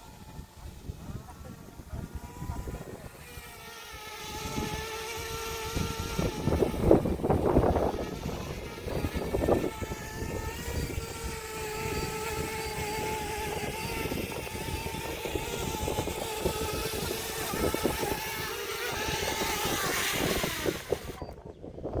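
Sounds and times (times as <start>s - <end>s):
drone propellers whining: 0.0s - 21.4s
wind buffeting microphone: 0.0s - 22.0s.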